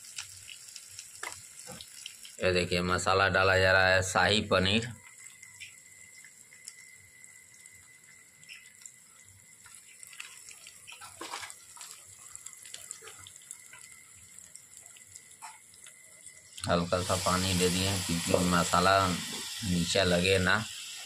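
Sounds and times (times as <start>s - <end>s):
spices sizzling and popping in oil: 0.0s - 21.0s.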